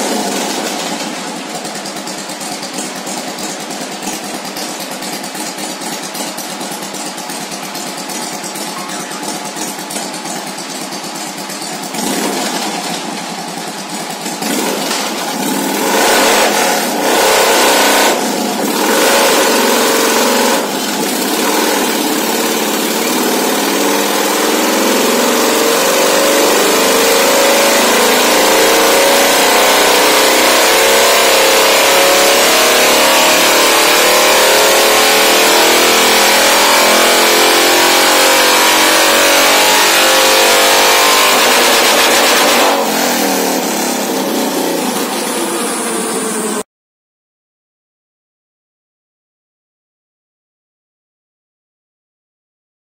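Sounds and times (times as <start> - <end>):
motorcycle engine revving: 0.0 - 46.6.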